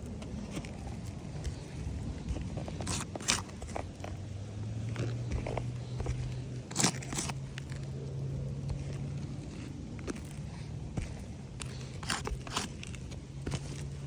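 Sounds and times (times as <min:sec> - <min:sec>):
steady low hum: 0:00.0 - 0:14.0
footsteps crunching: 0:00.1 - 0:14.0.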